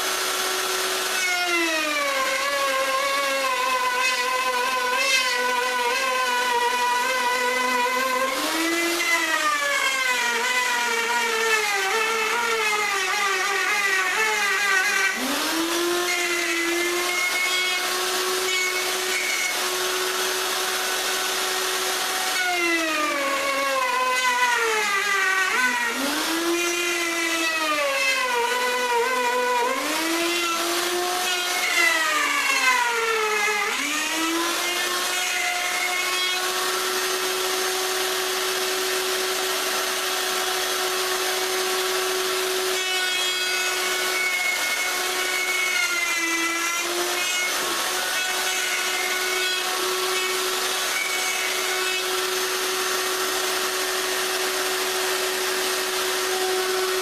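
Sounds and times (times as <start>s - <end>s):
electric router whining: 0.0s - 57.0s.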